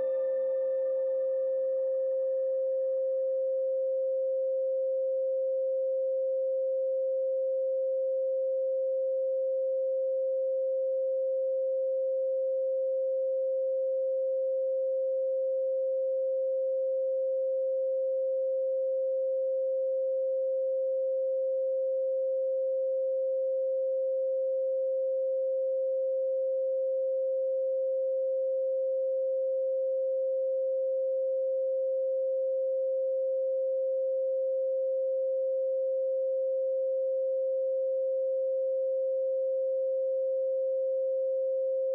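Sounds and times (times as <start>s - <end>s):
pure sine tone: 0.0s - 41.9s.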